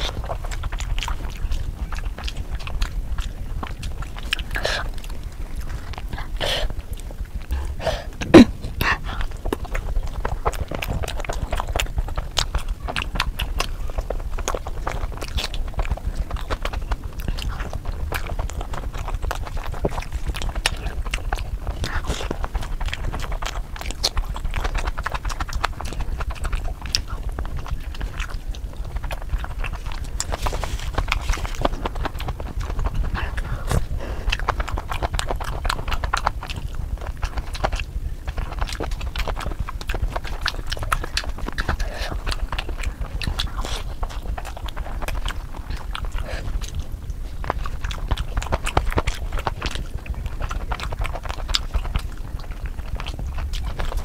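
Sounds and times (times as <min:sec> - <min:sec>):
chewing and lip-smacking: 0:00.0 - 0:54.0
low steady hum: 0:00.0 - 0:54.0
wet mouth clicks: 0:00.0 - 0:54.0.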